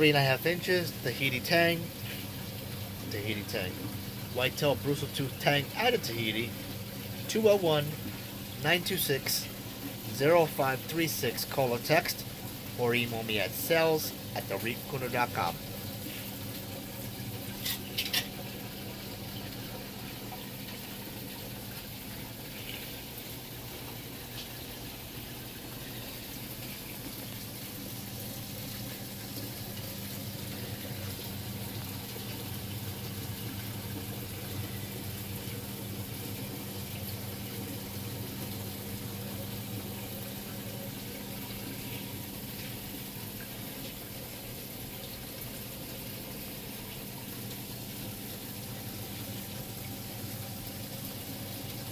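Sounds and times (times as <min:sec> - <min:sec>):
low pump hum: 0:00.0 - 0:51.9
water running and trickling: 0:00.0 - 0:51.9.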